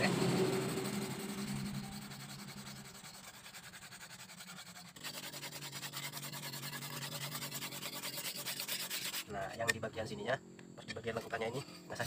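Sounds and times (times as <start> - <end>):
whetstone rubbing steel blade: 0.0 - 9.8.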